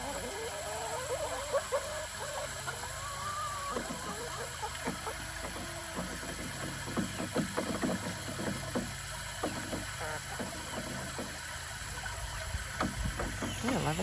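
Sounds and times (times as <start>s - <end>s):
chickens pecking at grass: 0.0s - 14.0s.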